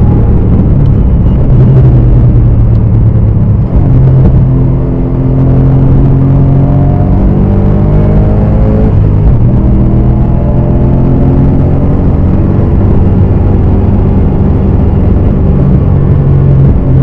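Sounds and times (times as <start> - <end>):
car engine running under load: 0.0 - 17.0.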